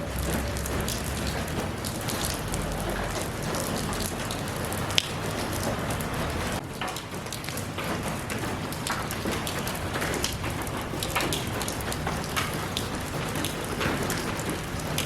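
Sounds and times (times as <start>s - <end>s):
drops ticking on hard surface: 0.0s - 15.0s
steady rain hiss: 0.0s - 15.0s.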